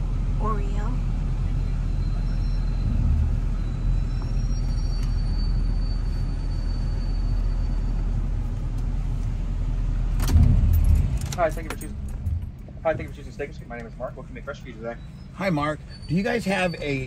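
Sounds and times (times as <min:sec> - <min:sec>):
truck engine and tyres rumbling: 0:00.0 - 0:17.0.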